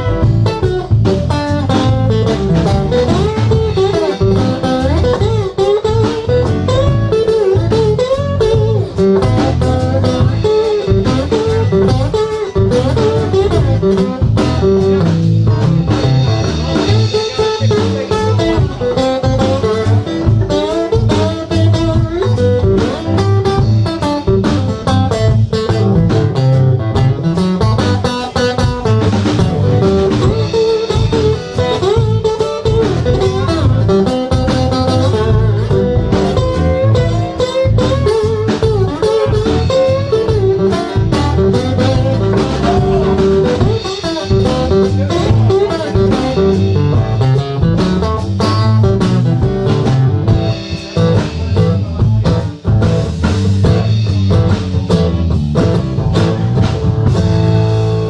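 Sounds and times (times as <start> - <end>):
blues-rock band playing: 0.0 - 58.0
lead guitar line: 0.0 - 58.0.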